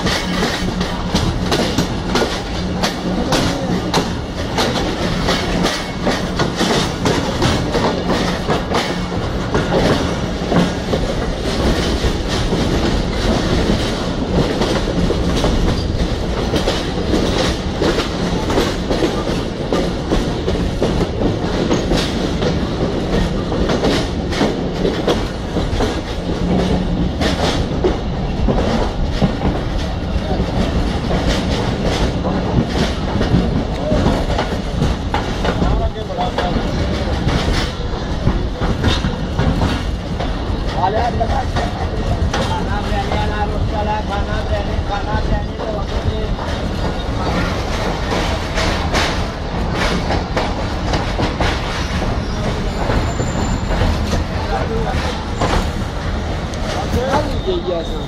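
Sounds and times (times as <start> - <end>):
train clattering on rails: 0.0 - 58.0
train rumble: 0.0 - 58.0.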